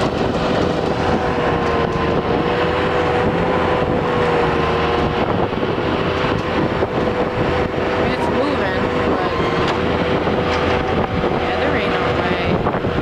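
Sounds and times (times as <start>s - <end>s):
skid steer engine straining: 0.0s - 13.0s.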